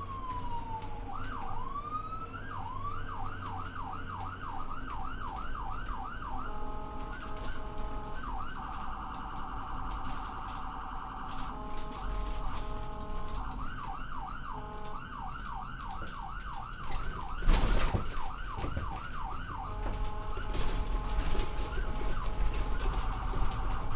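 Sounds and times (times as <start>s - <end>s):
ambulance electronic siren: 0.0s - 23.9s.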